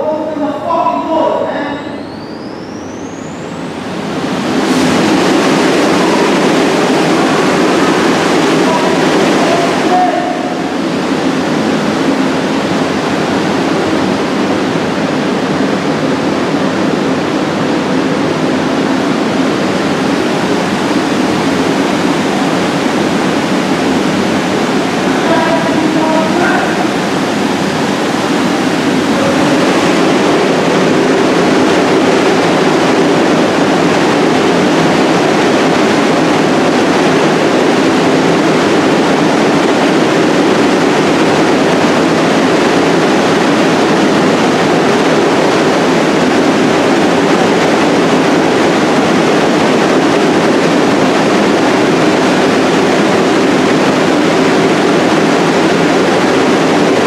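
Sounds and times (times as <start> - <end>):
subway train rushing with hum: 0.0 - 57.0.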